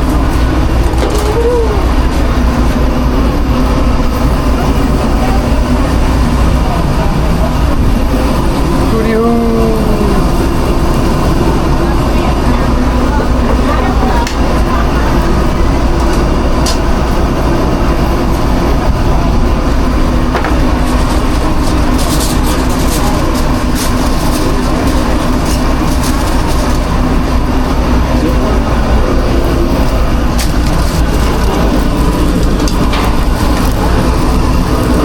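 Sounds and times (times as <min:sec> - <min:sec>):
kitchen machinery droning: 0:00.0 - 0:35.0.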